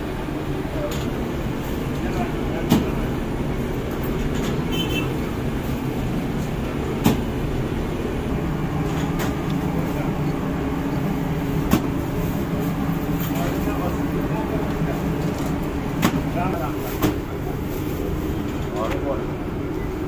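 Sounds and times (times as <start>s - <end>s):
bakery machinery humming: 0.0s - 20.0s.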